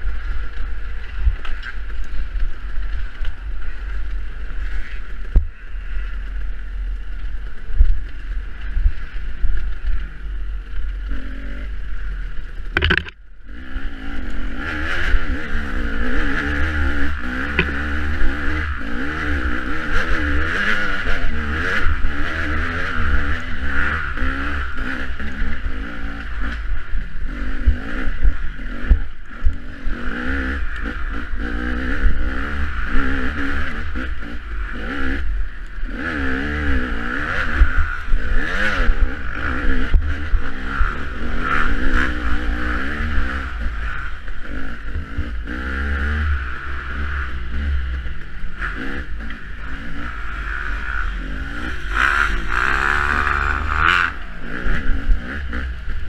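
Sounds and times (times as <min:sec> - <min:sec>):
dirt bike engine revving: 0:08.6 - 0:56.0.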